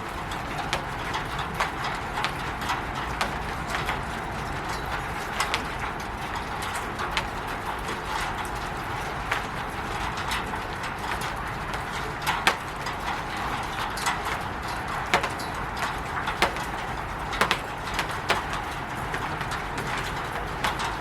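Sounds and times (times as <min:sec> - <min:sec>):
heavy drops tapping roof: 0:00.0 - 0:21.0
rain on a roof: 0:00.0 - 0:21.0.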